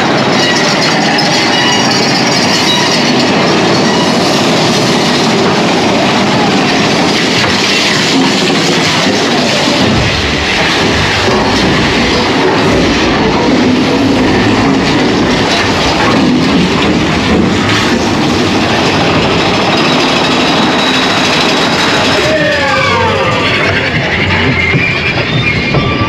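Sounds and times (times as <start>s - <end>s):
roller coaster rumbling on track: 0.0s - 26.0s.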